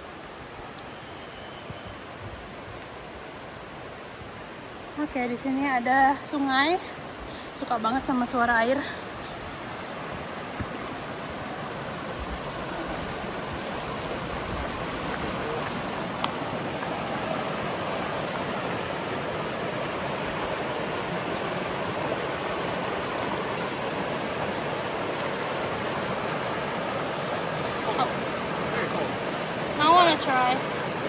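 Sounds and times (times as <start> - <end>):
river rushing over rocks: 1.7 - 31.0.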